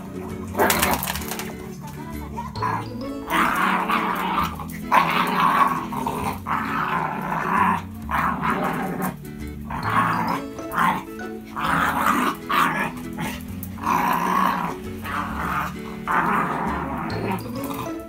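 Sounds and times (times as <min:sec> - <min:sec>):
background music: 0:00.0 - 0:18.0
dogs growling: 0:00.0 - 0:18.0.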